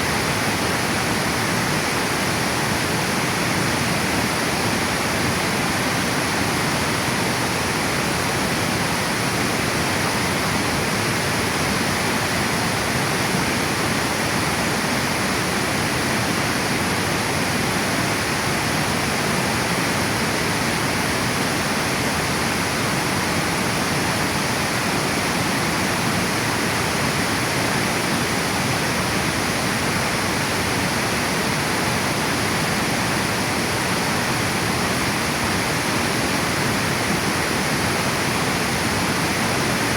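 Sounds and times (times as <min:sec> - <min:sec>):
water rushing over dam: 0:00.0 - 0:39.9.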